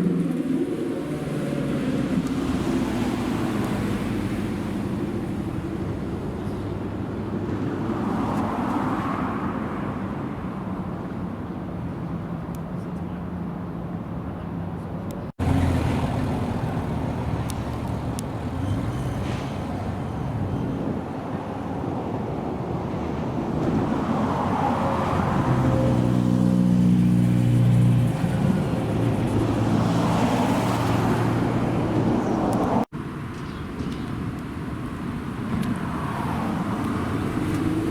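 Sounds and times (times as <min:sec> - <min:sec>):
car engines in traffic: 0:00.0 - 0:37.9.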